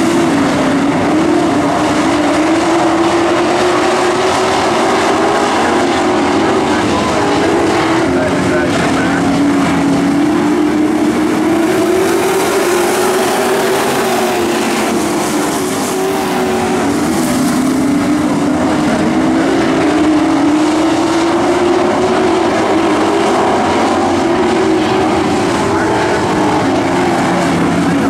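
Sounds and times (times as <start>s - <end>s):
racing truck engines at high revs: 0.0s - 28.0s.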